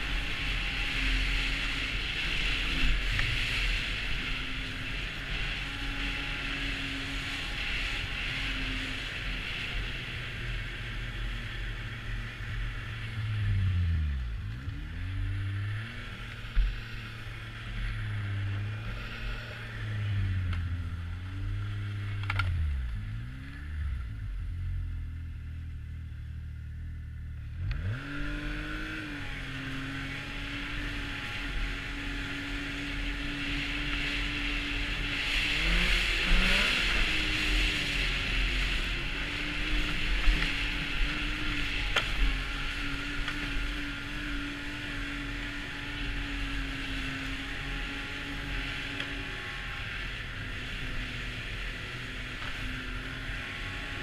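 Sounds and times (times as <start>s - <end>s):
snowmobile engine: 0.0s - 54.0s
wind and track noise: 0.0s - 54.0s.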